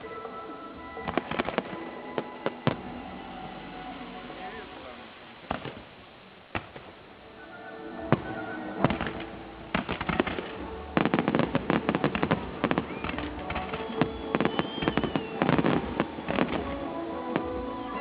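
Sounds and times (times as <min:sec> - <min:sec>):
fireworks bangs and crackling: 0:00.8 - 0:18.0.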